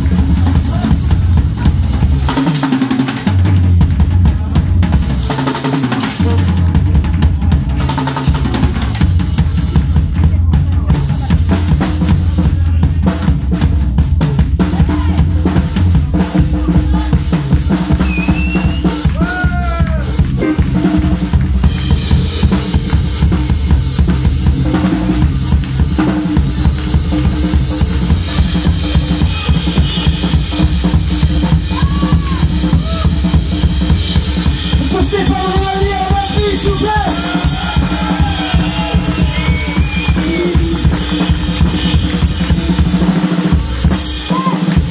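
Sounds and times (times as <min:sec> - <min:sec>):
blues band playing: 0:00.0 - 0:44.9
busy drumming: 0:00.0 - 0:44.9.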